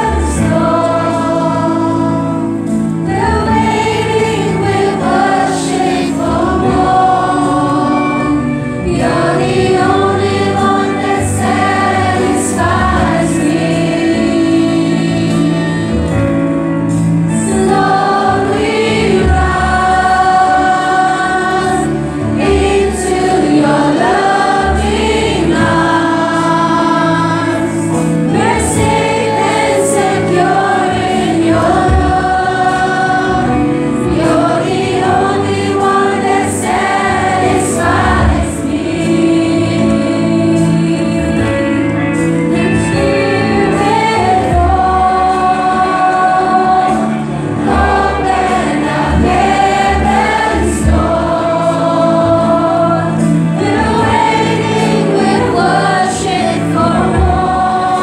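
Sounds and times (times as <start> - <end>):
congregation singing worship song: 0.0 - 58.0
instrumental backing: 0.0 - 58.0.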